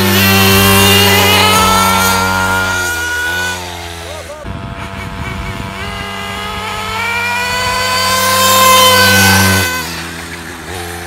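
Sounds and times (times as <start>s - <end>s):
small engines at full throttle: 0.0s - 11.0s.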